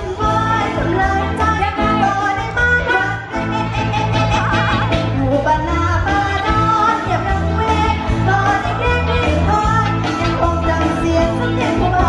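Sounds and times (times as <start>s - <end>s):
woman singing: 0.0s - 3.6s, 4.3s - 12.0s
live pop band playing: 0.0s - 12.0s.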